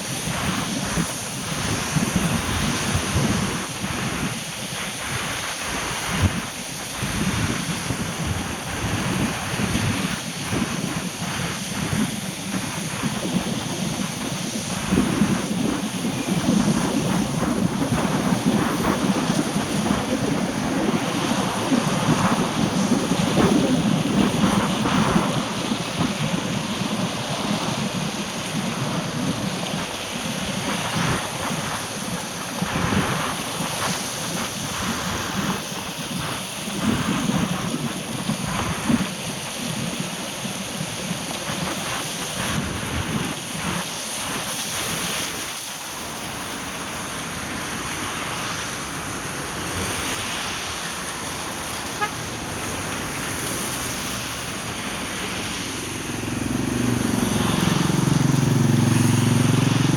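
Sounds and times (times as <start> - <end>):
rain: 0.0 - 59.9
traffic on wet road: 0.0 - 59.9
wind gusting on microphone: 0.0 - 59.9.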